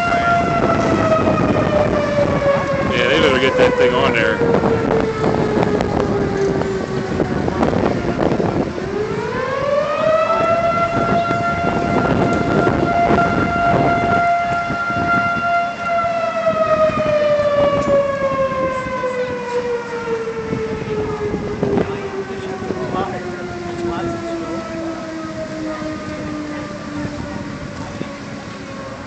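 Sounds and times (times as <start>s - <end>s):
fire siren winding: 0.0s - 29.0s.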